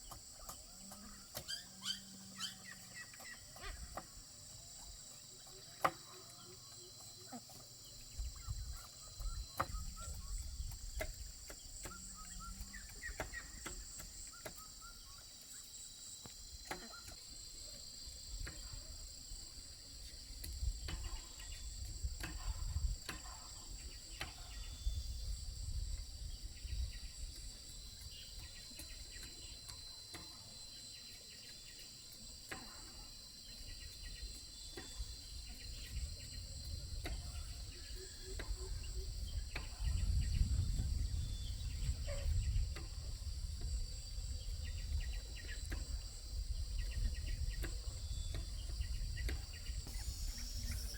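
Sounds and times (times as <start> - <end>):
insects buzzing drone: 0.0 - 50.9.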